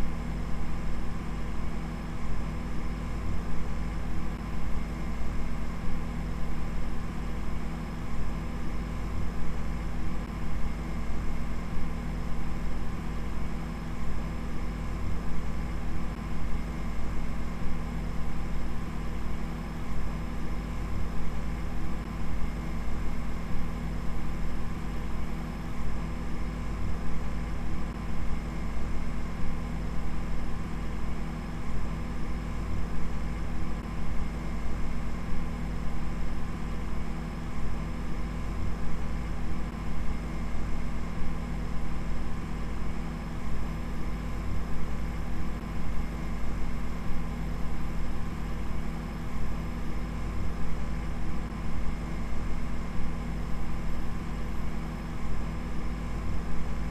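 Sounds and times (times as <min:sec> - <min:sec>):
low droning hum with hiss: 0:00.0 - 0:56.9.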